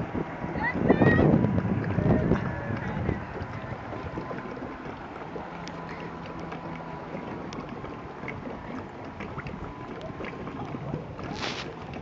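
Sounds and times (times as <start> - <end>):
boat motor running: 0.0 - 12.0
water noise: 0.0 - 12.0
wind: 0.0 - 12.0.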